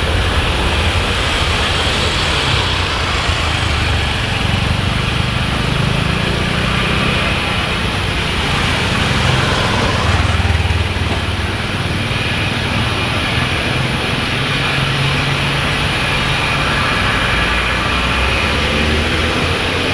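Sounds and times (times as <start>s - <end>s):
jet engines roaring: 0.0s - 19.9s.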